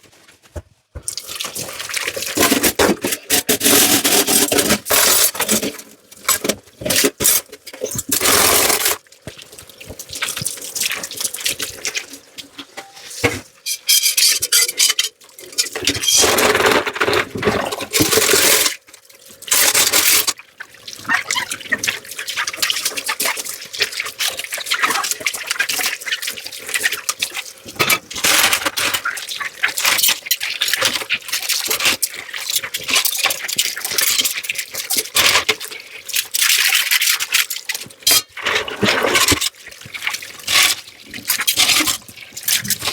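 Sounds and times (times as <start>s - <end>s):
tap water splashing over dishes: 1.0s - 42.9s.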